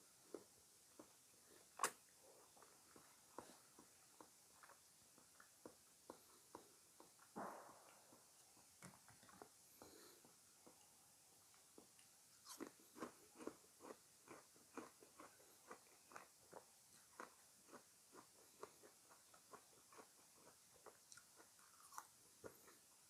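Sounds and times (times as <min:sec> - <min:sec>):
chewing fresh fruit: 0:00.0 - 0:23.0.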